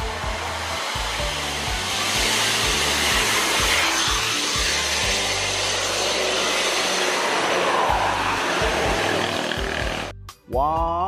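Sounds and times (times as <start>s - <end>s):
bus driving past: 0.0s - 10.2s.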